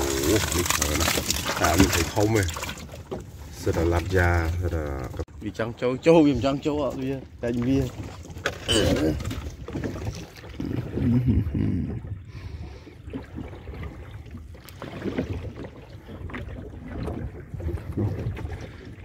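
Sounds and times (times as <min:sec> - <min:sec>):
boat rumbling on water: 0:00.0 - 0:19.0.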